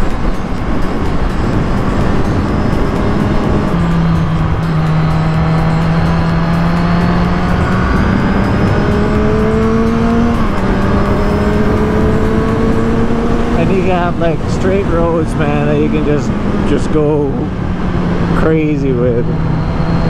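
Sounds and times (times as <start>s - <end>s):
motorcycle engine at road speed: 0.0s - 20.0s
wind noise: 0.0s - 20.0s.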